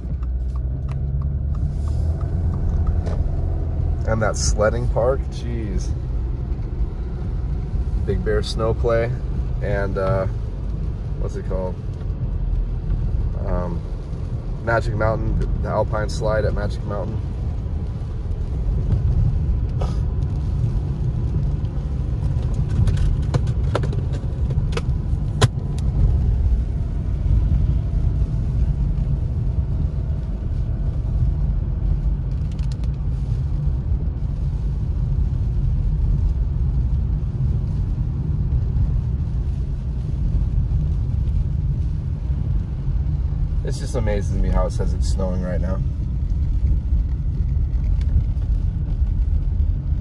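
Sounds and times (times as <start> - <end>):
car road noise rumble: 0.0 - 50.0.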